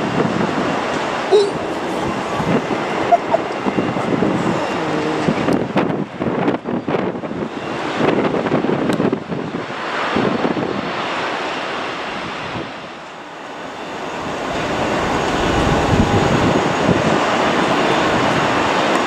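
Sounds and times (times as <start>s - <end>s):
gusty wind on microphone: 0.0s - 19.0s
jet engine noise: 0.0s - 19.0s.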